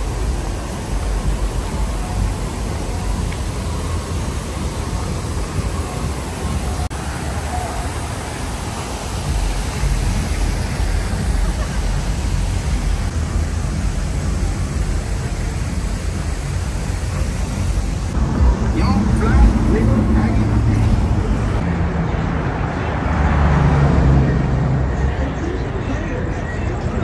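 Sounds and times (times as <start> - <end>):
fountain water splashing: 0.0 - 21.6
street traffic rumble: 0.0 - 27.0.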